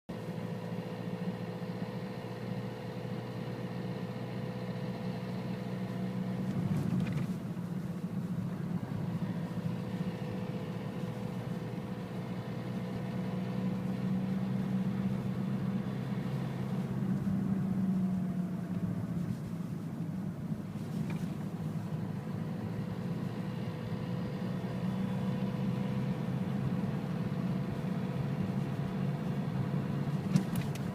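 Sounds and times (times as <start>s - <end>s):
diesel engine idling: 0.1s - 30.9s.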